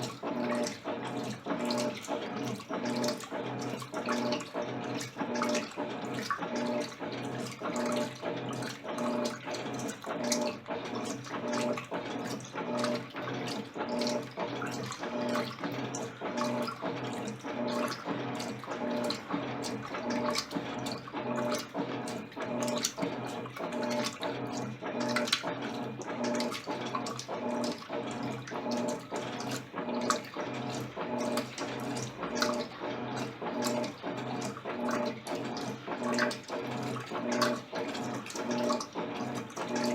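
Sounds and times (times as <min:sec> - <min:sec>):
pulsing motor hum: 0:00.0 - 0:39.9
water sloshing in washing machine: 0:00.0 - 0:39.9.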